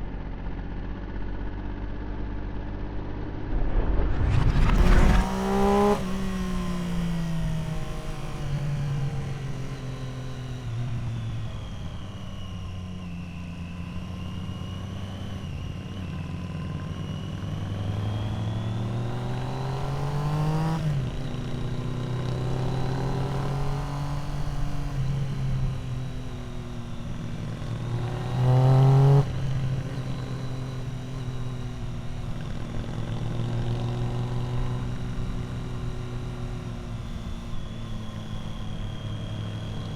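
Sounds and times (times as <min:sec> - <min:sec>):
motorcycle engine running: 0:00.0 - 0:39.9
motorcycle engine revving: 0:00.2 - 0:39.9.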